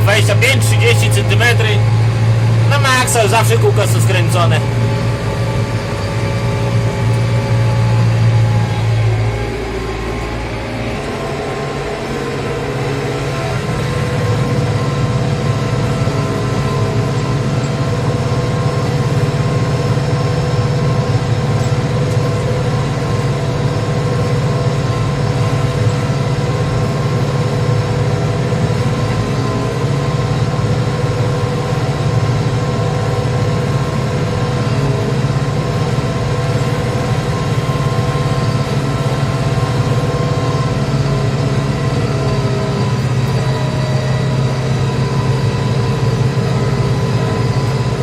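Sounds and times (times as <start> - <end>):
tractor diesel engine droning: 0.0 - 48.0.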